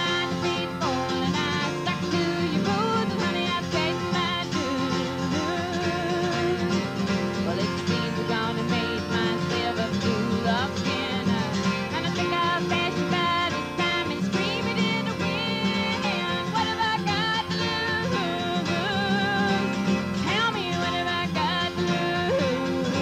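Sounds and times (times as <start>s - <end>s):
acoustic guitar strummed: 0.0s - 23.0s.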